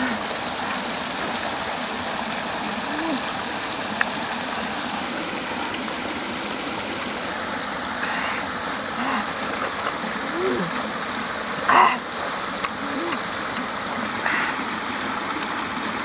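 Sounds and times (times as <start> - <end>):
shallow rocky stream flowing: 0.0 - 16.0.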